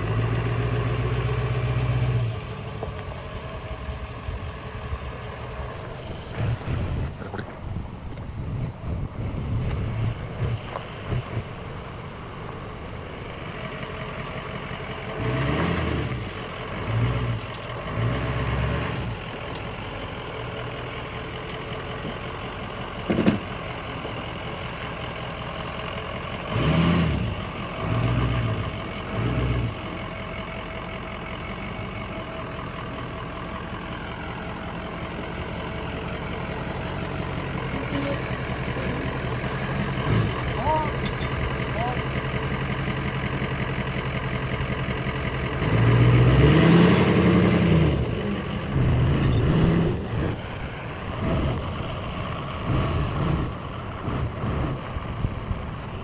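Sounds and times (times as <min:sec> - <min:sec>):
vehicle engine running and revving: 0:00.0 - 0:56.0.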